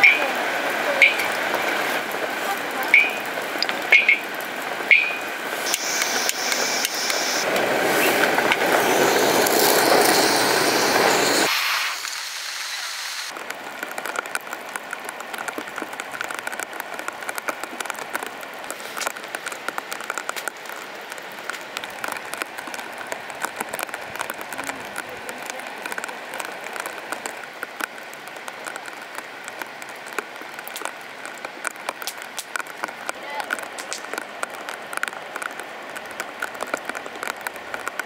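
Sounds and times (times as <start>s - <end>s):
rain drops pattering on surfaces: 0.0s - 38.0s.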